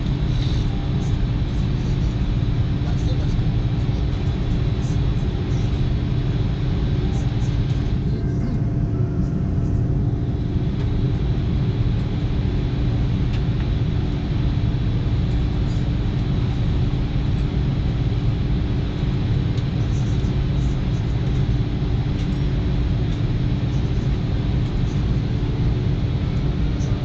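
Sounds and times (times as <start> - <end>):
airplane cabin rumble and hum: 0.0 - 27.0.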